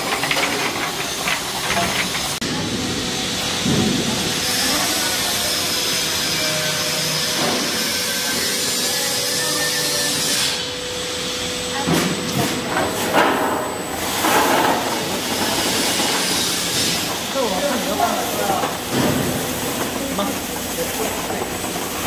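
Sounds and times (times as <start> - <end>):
drum roaster hissing and humming: 0.0 - 22.0.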